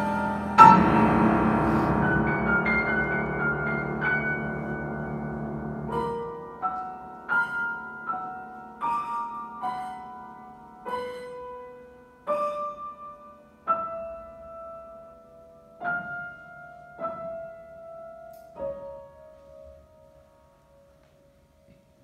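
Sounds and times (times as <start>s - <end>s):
grand piano chords ringing: 0.0s - 21.6s.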